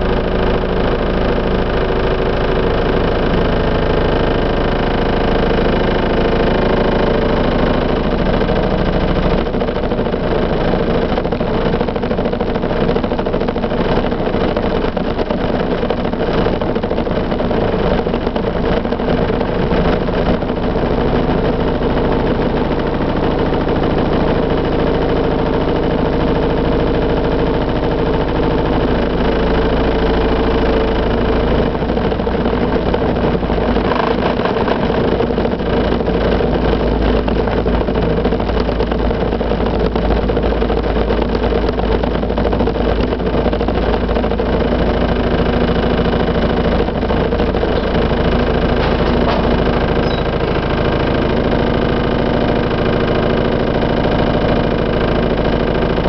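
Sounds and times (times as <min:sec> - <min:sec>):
heavy construction machinery rumbling: 0:00.0 - 0:56.0.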